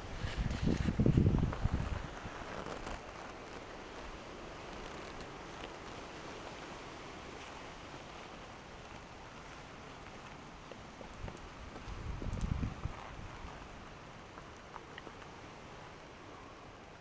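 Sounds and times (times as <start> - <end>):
steady hiss with rustling: 0.0 - 17.0.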